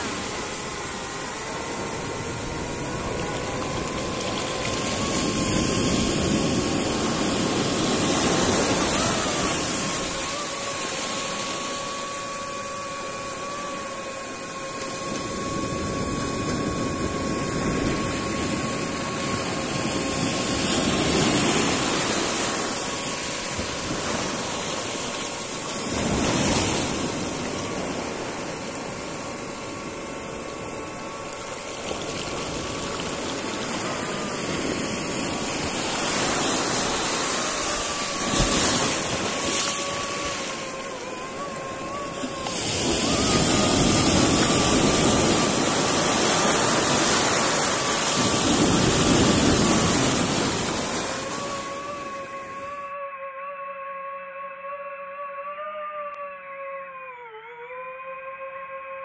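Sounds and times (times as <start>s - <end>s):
drone motors whining: 0.0s - 53.8s.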